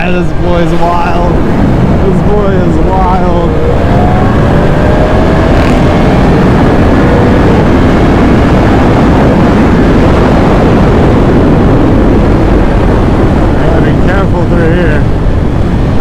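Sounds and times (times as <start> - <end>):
motorcycle engine: 0.0 - 16.0
wind rush over microphone: 0.0 - 16.0.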